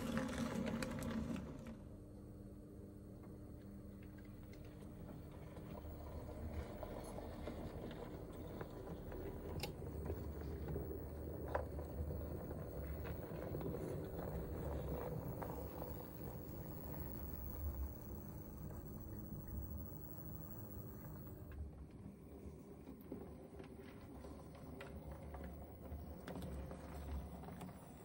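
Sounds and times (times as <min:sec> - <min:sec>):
model train motor and wheel rumble: 0:00.0 - 0:01.9, 0:04.2 - 0:28.0.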